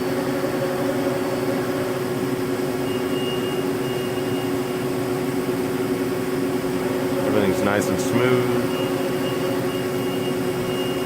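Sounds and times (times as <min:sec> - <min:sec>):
faint high whine: 0:00.0 - 0:11.0
machine hum: 0:00.0 - 0:11.0.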